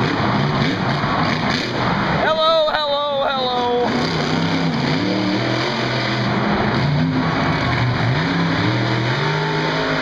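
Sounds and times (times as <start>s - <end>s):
truck engine revving: 0.0s - 2.2s, 3.4s - 10.0s.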